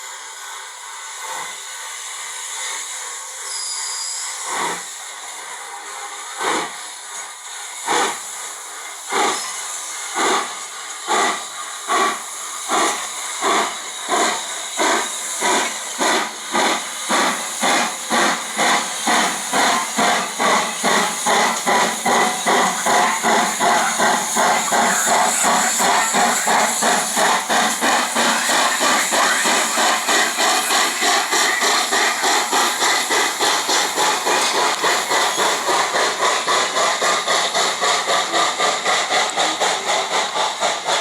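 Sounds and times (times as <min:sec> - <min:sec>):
steam locomotive chuffing: 0:00.0 - 0:41.0.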